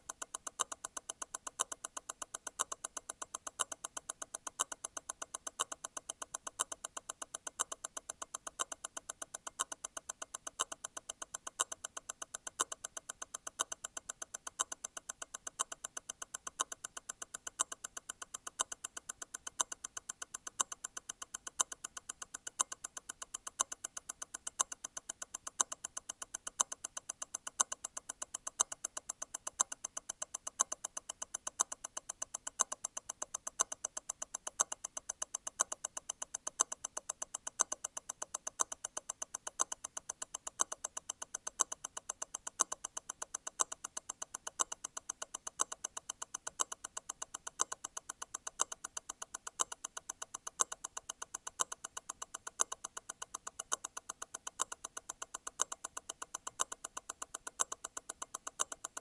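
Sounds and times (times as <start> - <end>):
watch movement ticking: 0.0 - 59.0.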